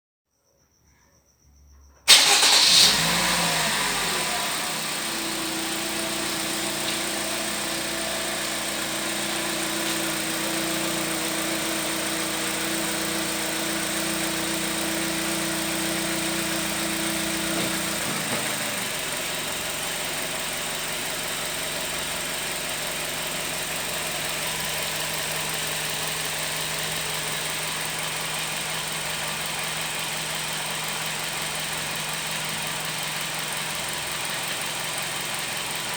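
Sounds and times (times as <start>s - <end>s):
car engine idling: 2.1s - 35.9s.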